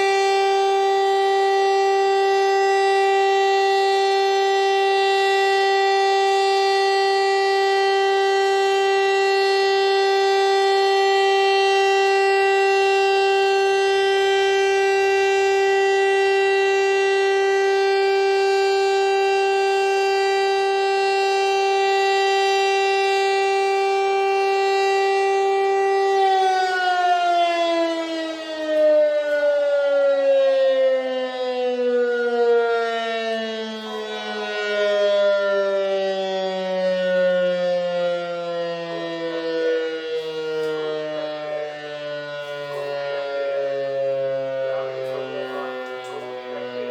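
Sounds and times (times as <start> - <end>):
civil defense siren: 0.0 - 46.9.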